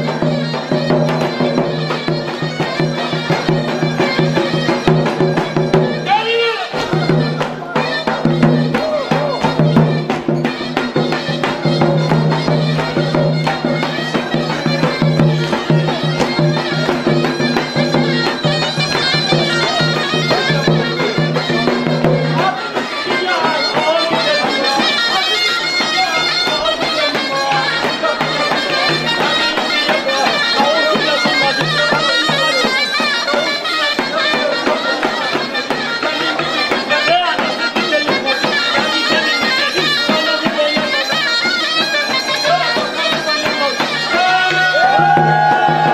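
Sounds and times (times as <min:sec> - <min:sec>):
bagpipe folk melody: 0:00.0 - 0:45.9.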